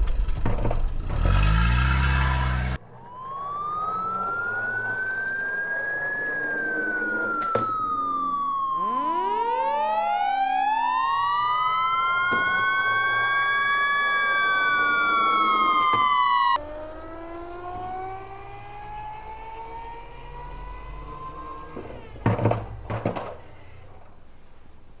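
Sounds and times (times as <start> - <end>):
siren wailing: 2.0 - 24.3.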